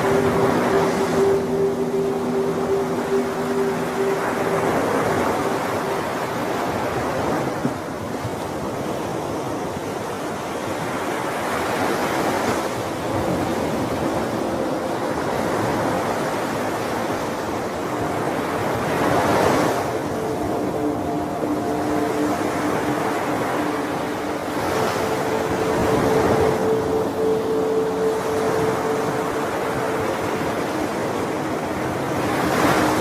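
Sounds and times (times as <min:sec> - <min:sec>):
ocean waves washing on shore: 0:00.0 - 0:33.0.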